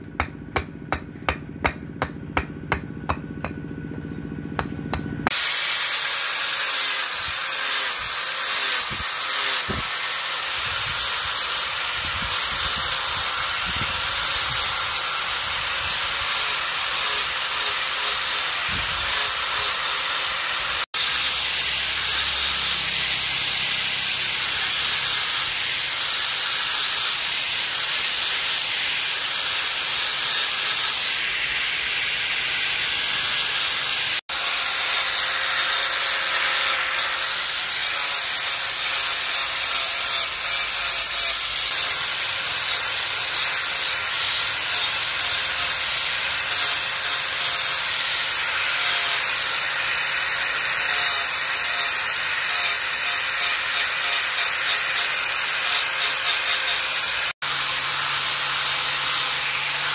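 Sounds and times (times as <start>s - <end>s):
angle grinder sanding wood: 0.0s - 59.9s.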